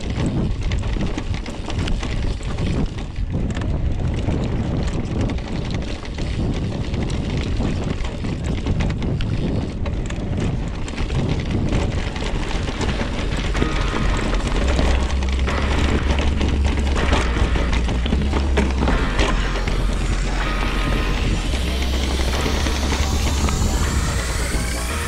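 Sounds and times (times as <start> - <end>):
bike rattling and knocking: 0.0 - 25.0
tyre noise on trail: 0.0 - 25.0
wind buffeting microphone: 0.0 - 25.0.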